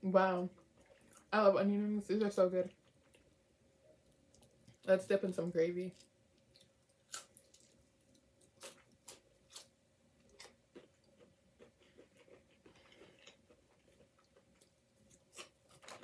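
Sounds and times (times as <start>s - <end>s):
close-miked crunchy chewing: 0.5s - 1.4s, 2.6s - 3.4s, 4.0s - 16.0s.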